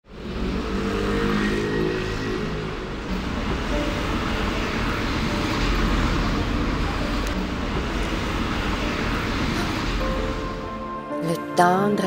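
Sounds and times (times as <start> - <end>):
passing cars: 0.0 - 11.1.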